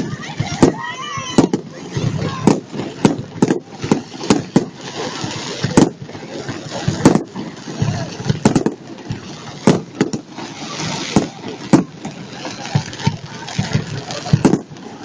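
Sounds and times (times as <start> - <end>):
firework shells bursting: 0.0 - 15.0
fireworks crackle and rumble: 0.0 - 15.0.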